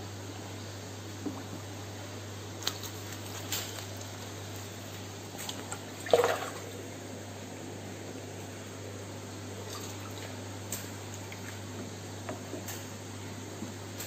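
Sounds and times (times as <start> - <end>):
aquarium equipment hum and hiss: 0.0 - 14.0.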